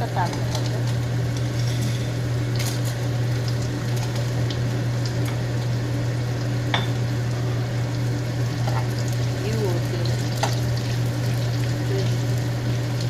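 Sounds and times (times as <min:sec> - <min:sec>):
constant low hum: 0:00.0 - 0:13.0
food sizzling in a pan: 0:00.0 - 0:13.0.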